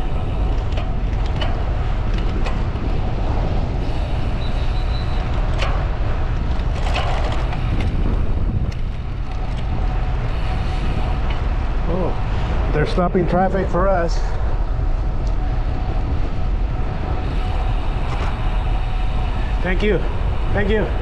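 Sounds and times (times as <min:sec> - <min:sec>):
bicycle tyre and road noise: 0:00.0 - 0:21.0
wind rumble on microphone: 0:00.0 - 0:21.0.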